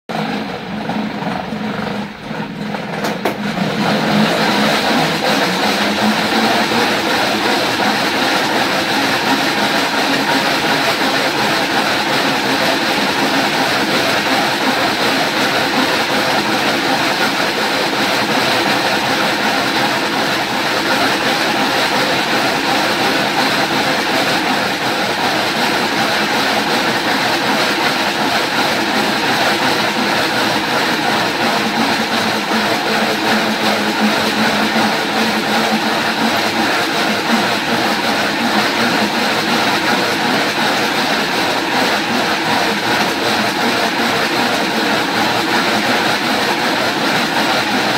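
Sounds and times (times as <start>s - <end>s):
treadmill slats rattling: 0.1s - 47.9s.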